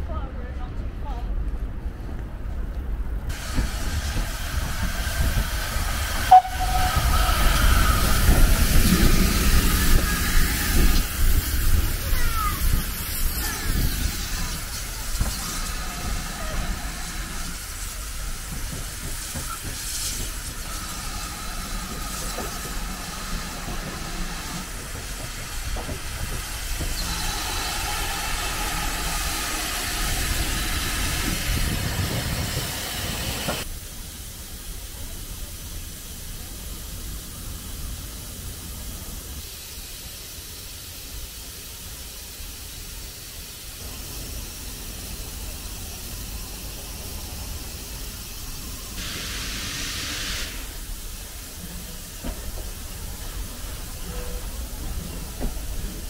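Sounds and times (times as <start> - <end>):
steam hissing: 3.3 - 56.0.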